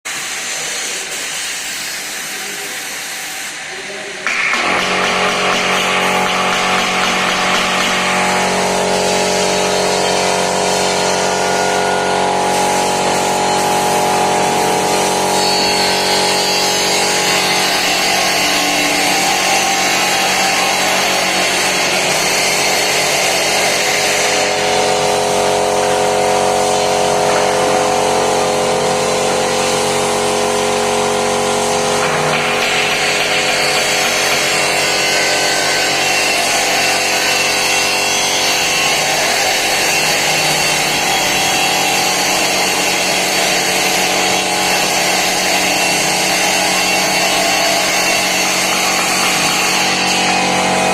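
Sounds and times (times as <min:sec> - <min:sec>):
woodworking power tool running: 0:00.1 - 0:50.9.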